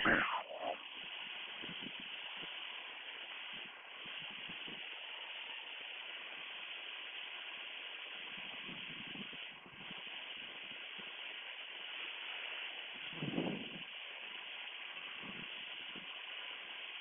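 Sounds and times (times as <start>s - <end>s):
aircraft cabin noise hiss: 0.0s - 17.0s.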